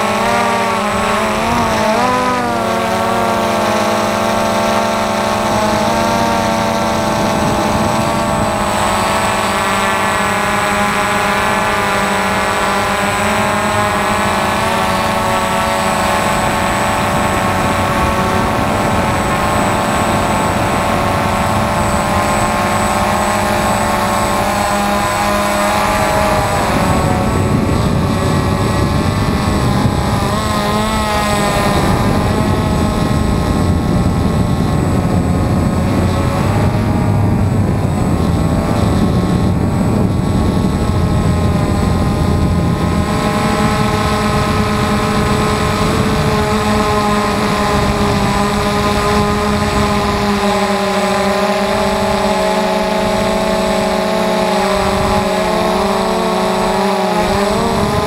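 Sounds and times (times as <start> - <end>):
drone motors buzzing: 0.0 - 58.0.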